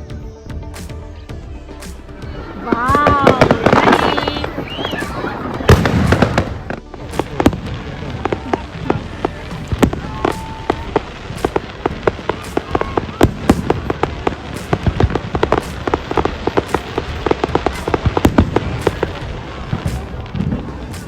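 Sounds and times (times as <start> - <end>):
background din: 0.0 - 21.0
fireworks bangs and crackles: 0.8 - 21.0.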